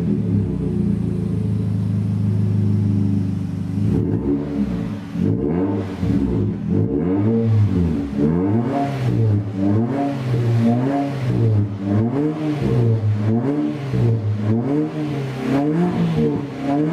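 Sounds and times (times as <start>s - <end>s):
car exhaust revving: 0.0s - 16.9s.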